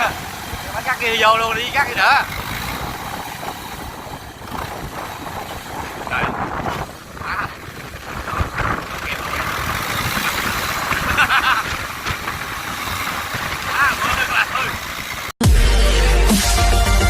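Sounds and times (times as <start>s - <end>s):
combine harvester running: 0.0s - 15.4s.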